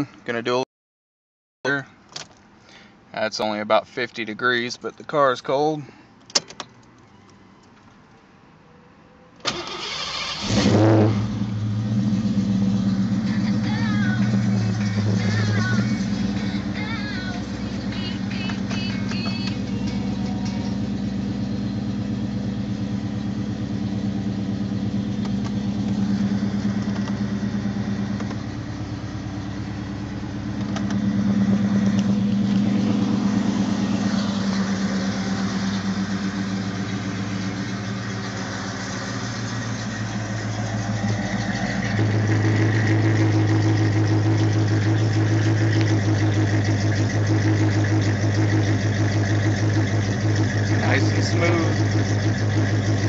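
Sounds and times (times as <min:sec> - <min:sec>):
car engine idling: 0:09.5 - 0:53.0.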